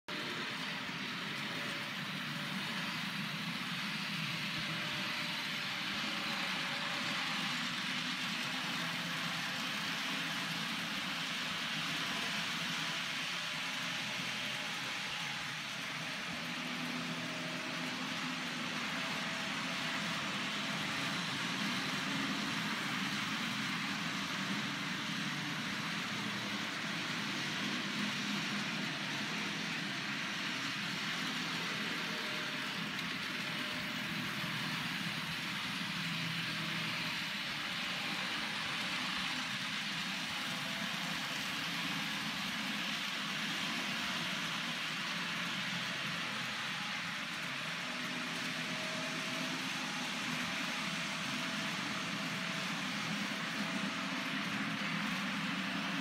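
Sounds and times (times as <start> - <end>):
model train motors whirring: 0.1 - 56.0.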